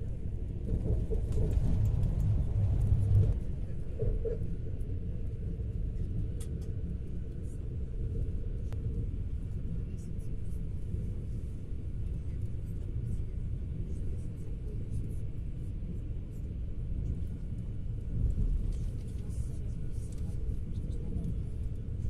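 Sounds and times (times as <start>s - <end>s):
train rumble from inside carriage: 0.0s - 22.0s.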